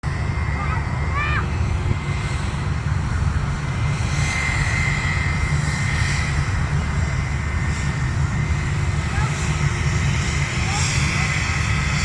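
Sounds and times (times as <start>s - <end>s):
jet engines rumbling and whining: 0.0s - 12.0s.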